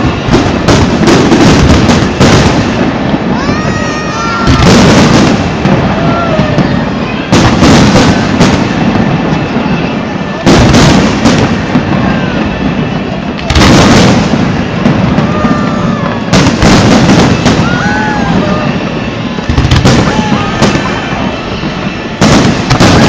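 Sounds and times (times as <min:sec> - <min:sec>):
fireworks booming: 0:00.0 - 0:23.0.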